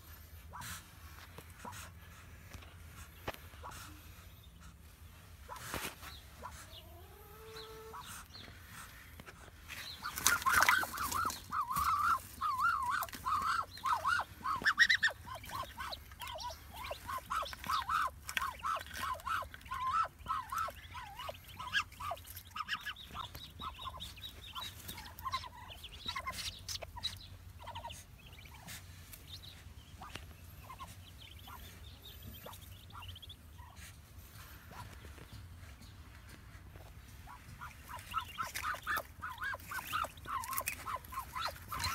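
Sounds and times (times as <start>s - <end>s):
ducklings peeping: 0.0s - 41.9s.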